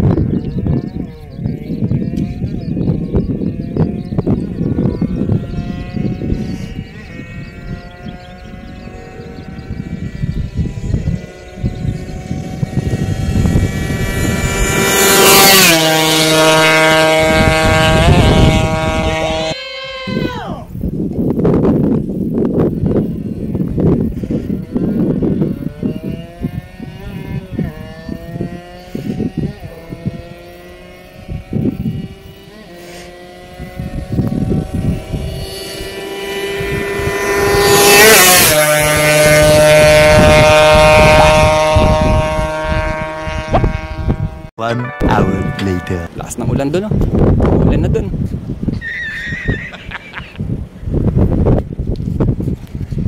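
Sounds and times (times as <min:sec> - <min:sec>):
two-stroke motorcycle passing: 0:00.0 - 0:20.2, 0:21.4 - 0:53.0
wind gusts on microphone: 0:00.0 - 0:53.0.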